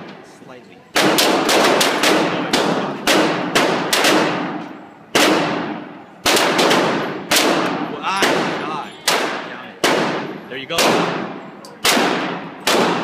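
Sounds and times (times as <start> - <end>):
pistol shots echoing indoors: 0.9 - 13.0.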